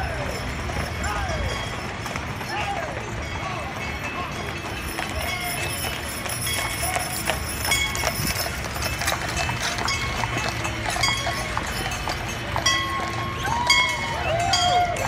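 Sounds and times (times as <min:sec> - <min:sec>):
horse hooves clip-clopping on street: 0:00.0 - 0:15.0.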